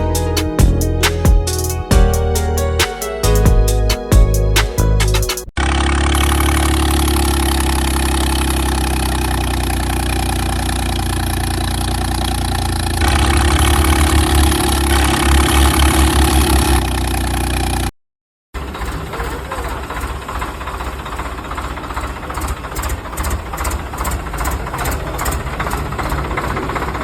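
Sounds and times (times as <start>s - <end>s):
truck engine idling and chugging: 0.0s - 17.9s, 18.6s - 27.0s.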